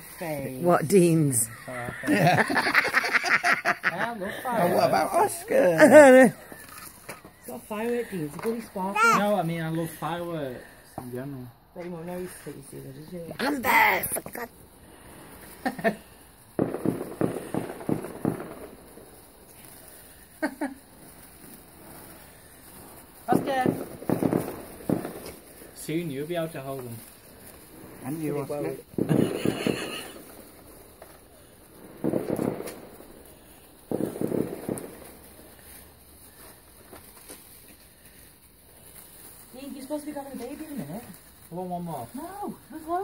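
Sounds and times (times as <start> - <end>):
firework popping: 0.0 - 43.0.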